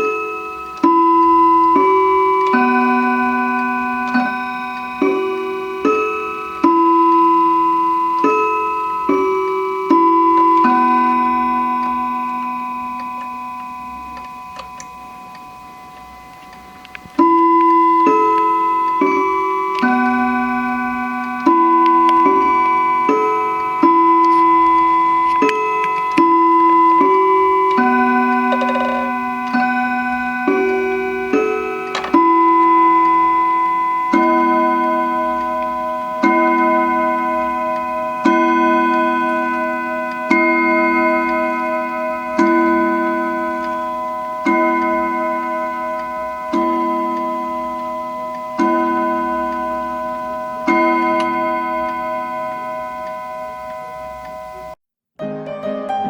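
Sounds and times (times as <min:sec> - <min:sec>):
clock chimes ringing: 0:00.0 - 0:54.8
faint clock ticking: 0:00.0 - 0:54.8.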